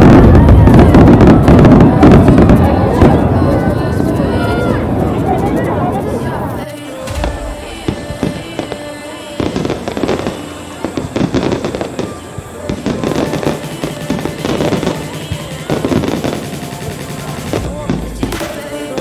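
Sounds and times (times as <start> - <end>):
fireworks bangs and crackles: 0.0 - 19.0
music playing: 0.0 - 19.0.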